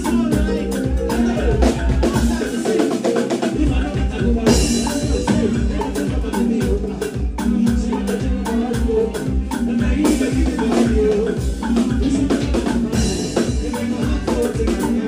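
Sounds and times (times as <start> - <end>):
drum kit beat: 0.0 - 15.0
keyboard: 0.0 - 15.0
live band playing: 0.0 - 15.0.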